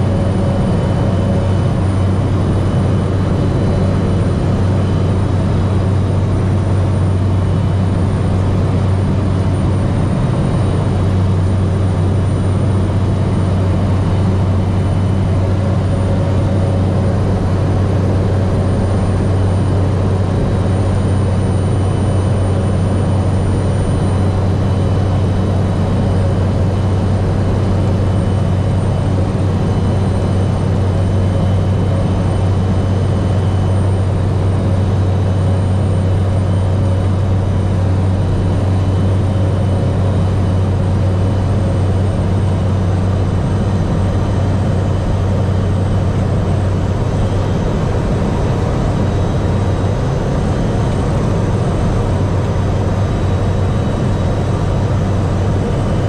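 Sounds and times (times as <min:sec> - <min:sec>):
faint high steady whine: 0:00.0 - 0:56.0
turboprop engine drone: 0:00.0 - 0:56.0.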